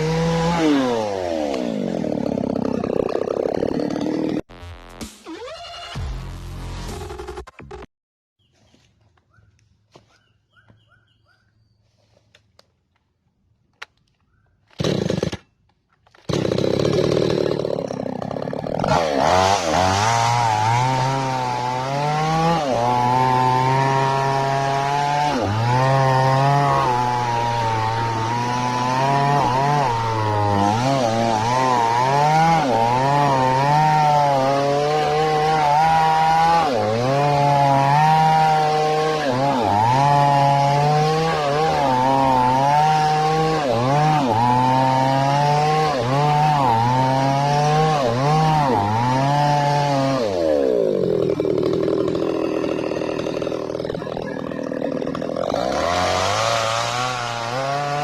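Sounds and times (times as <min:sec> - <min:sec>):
chainsaw engine revving: 0:00.0 - 0:04.4, 0:14.8 - 0:15.4, 0:16.2 - 0:58.0.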